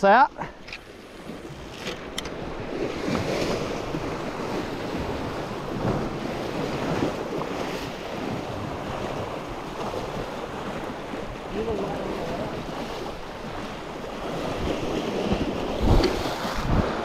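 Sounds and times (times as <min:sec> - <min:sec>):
wind buffeting microphone: 0:00.8 - 0:17.0
sea surf washing over rock: 0:02.4 - 0:17.0.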